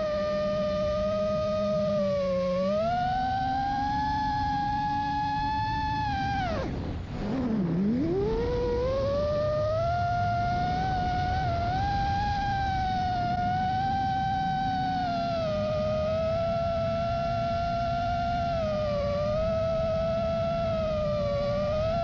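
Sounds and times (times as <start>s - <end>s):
quadcopter motors whining: 0.0s - 22.0s
rush of wind: 0.0s - 22.0s.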